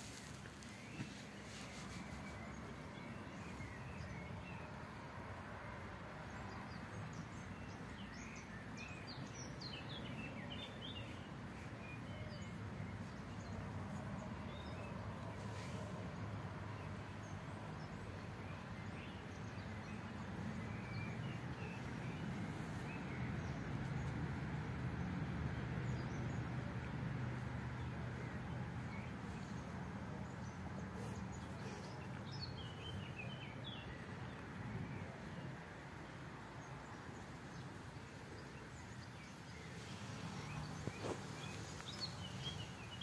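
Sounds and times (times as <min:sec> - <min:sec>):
small birds chirping: 0:00.0 - 0:05.2, 0:06.2 - 0:43.0.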